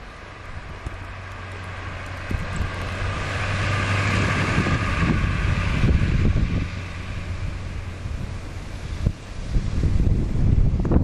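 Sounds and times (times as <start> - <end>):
vehicle on snowy road: 0.0 - 11.0
wind gusts buffeting microphone: 0.0 - 11.0.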